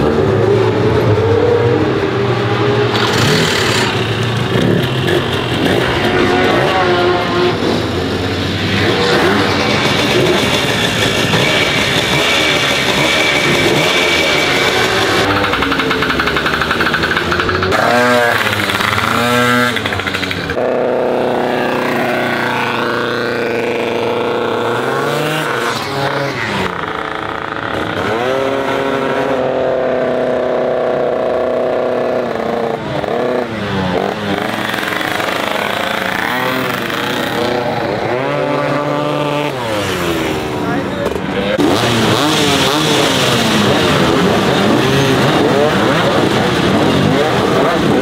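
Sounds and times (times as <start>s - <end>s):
scooter engine revving: 0.0s - 48.0s.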